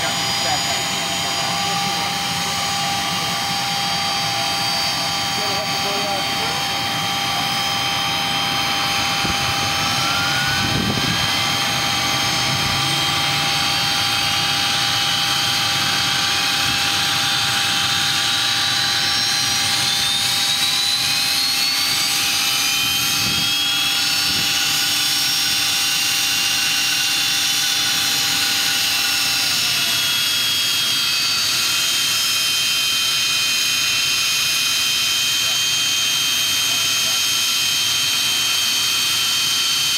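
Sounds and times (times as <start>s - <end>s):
jet engines starting: 0.0s - 39.9s.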